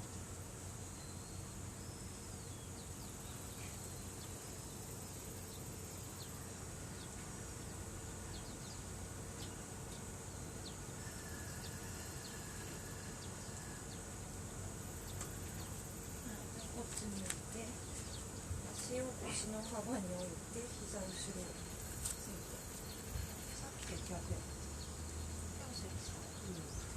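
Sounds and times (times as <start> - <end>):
insects chirring: 0.0 - 26.9.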